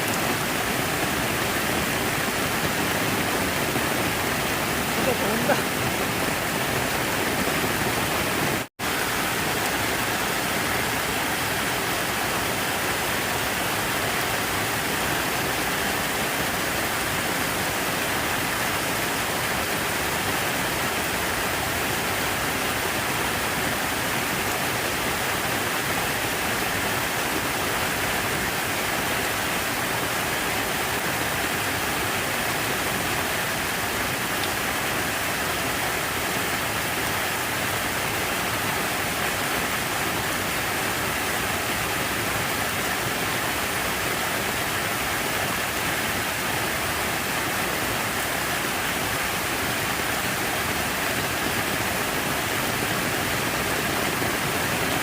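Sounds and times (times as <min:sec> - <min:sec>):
water rushing from fountain: 0:00.0 - 0:55.0.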